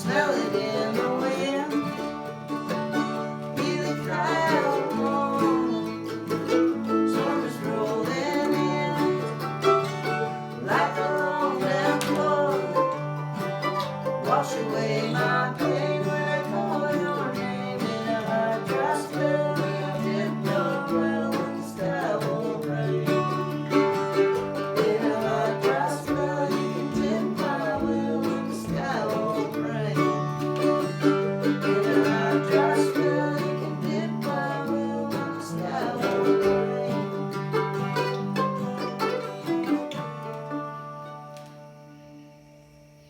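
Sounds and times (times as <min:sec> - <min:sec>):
picked string lead lines: 0:00.0 - 0:43.0
strummed acoustic guitar: 0:00.0 - 0:43.0.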